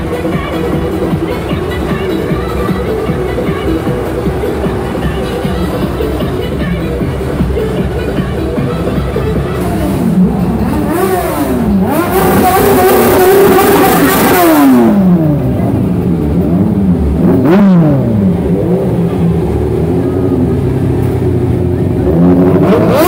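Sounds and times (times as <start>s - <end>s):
crowd voices: 0.0s - 23.0s
motorcycle engine revving: 0.0s - 23.0s.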